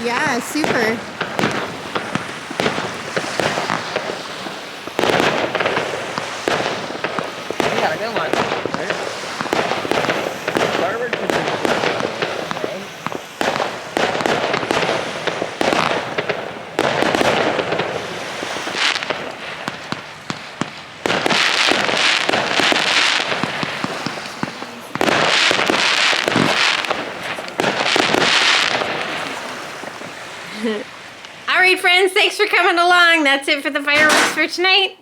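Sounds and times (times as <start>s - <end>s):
fireworks popping and crackling: 0.0s - 31.5s, 33.9s - 34.8s.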